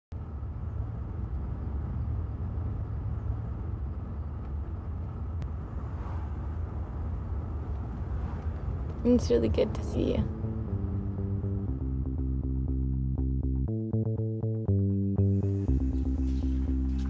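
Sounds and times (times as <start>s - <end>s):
car interior rumble: 0.1s - 13.6s, 15.2s - 17.0s.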